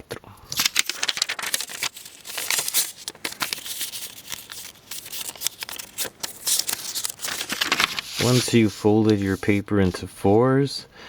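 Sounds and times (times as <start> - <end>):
paper crinkling and rustling: 0.5 - 9.6
paper creasing strokes: 0.6 - 9.5.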